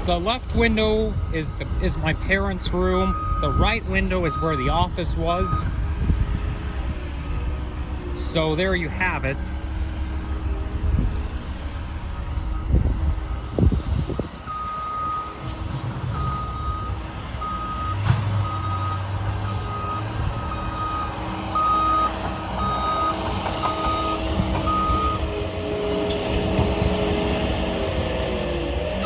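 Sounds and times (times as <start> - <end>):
truck engine running: 0.0 - 29.0
truck reversing alarm beeping: 0.0 - 29.0.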